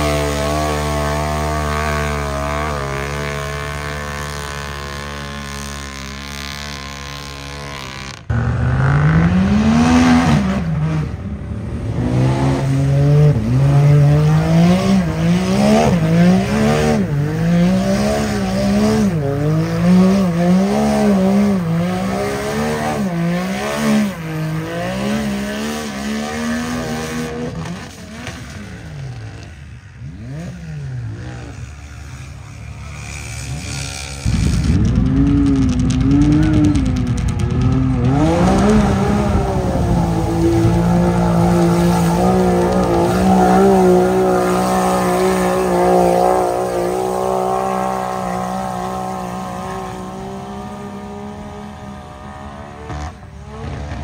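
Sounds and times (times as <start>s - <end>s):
truck engine revving hard: 0.0s - 29.4s, 30.0s - 54.0s
steady engine drone: 0.0s - 54.0s.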